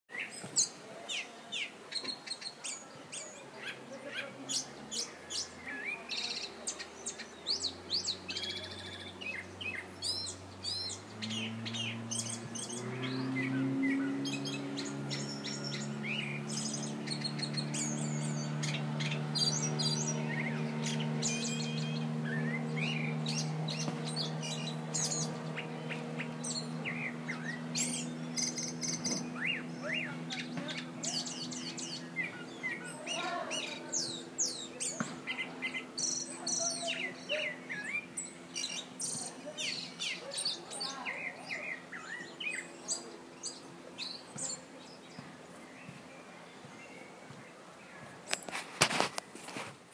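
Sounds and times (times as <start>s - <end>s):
bird singing whistles and chirps: 0.1s - 48.0s.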